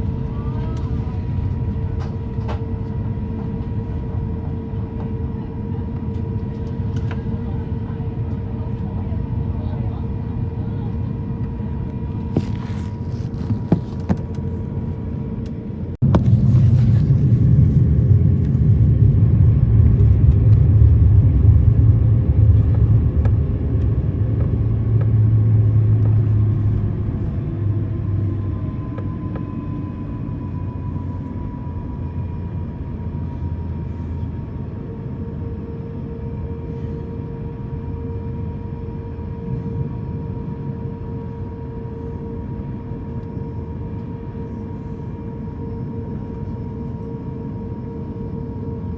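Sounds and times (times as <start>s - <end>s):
aircraft cabin rumble: 0.0s - 48.9s
faint whining tones: 0.0s - 48.9s.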